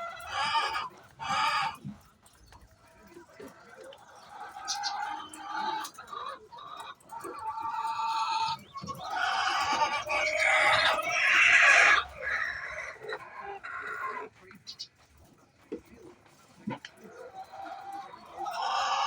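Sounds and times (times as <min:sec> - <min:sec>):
hen clucking and squawking: 0:00.0 - 0:15.2, 0:15.8 - 0:19.0.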